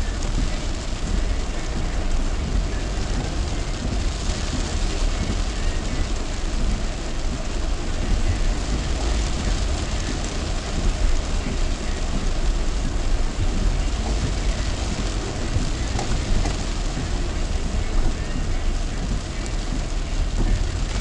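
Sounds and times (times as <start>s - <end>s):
heavy rain on a car: 0.0s - 21.0s
tyres and engine rumble: 0.0s - 21.0s.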